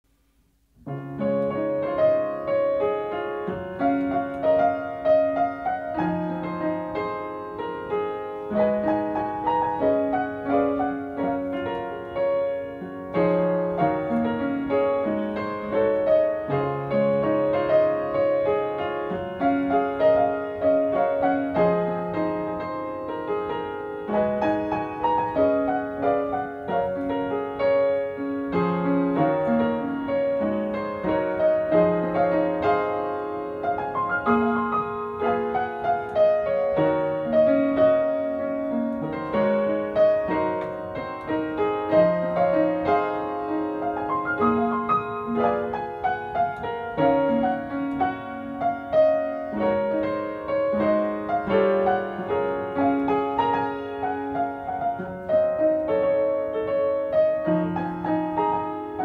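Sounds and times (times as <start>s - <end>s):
upright piano: 0.1s - 59.0s.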